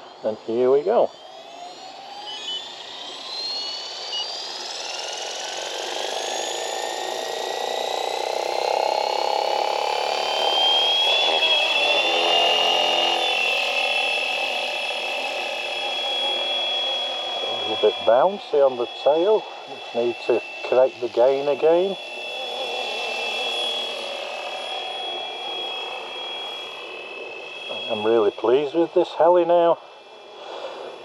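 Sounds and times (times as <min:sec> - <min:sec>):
rc helicopter motor whine: 0:00.0 - 0:31.0.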